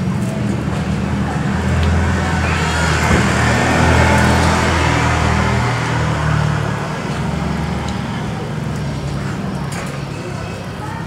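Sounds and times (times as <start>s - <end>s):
vehicle engine drone: 0.0s - 9.7s
road noise: 0.0s - 11.0s.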